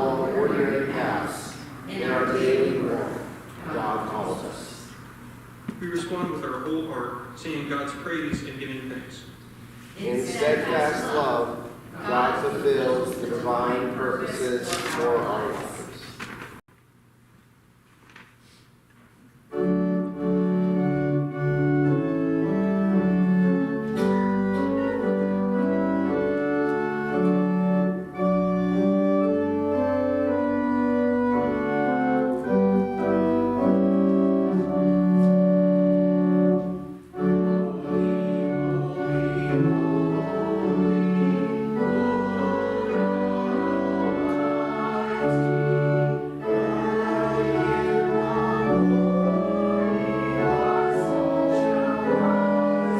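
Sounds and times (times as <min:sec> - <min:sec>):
organ playing held chords: 0:00.0 - 0:16.0, 0:19.5 - 0:52.9.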